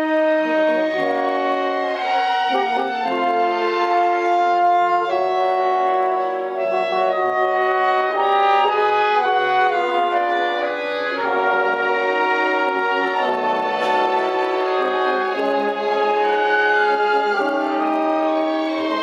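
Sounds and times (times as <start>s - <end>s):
orchestra playing classical music: 0.0s - 19.0s.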